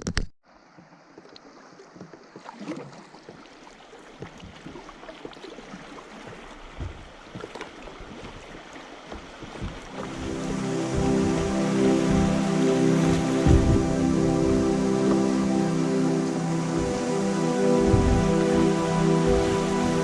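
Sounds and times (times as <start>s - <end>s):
water splashing around kayak: 0.4s - 20.0s
steady river rush: 1.0s - 20.0s.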